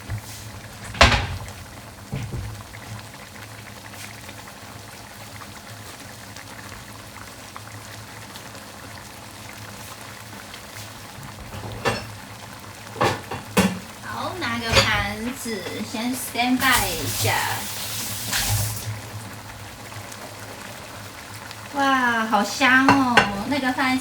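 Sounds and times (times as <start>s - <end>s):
sauce bubbling in a pan: 0.0s - 24.0s.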